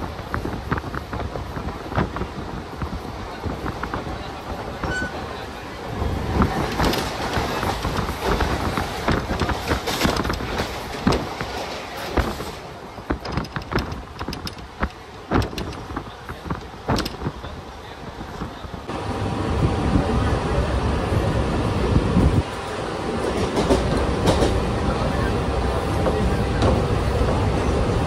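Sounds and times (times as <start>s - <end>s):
train clattering and knocks: 0.0s - 19.0s, 21.3s - 28.0s
train rumble: 0.0s - 28.0s.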